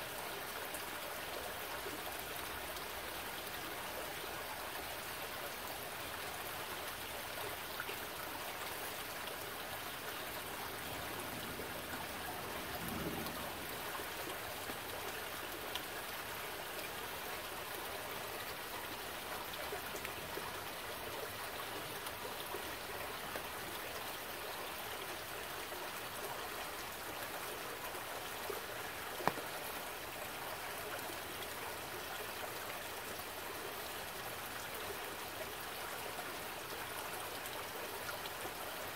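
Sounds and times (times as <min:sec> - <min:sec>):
stream trickling over rocks: 0:00.0 - 0:38.9.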